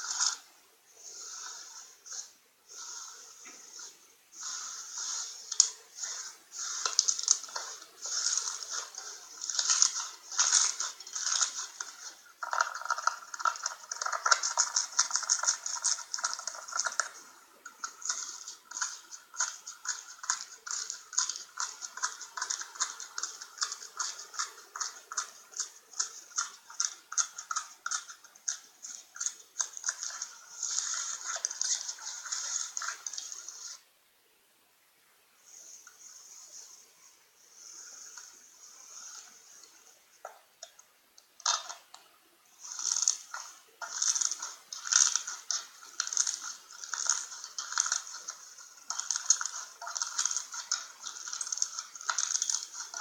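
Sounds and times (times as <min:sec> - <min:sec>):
slime squelching by hand: 0:00.0 - 0:33.8, 0:42.6 - 0:53.0.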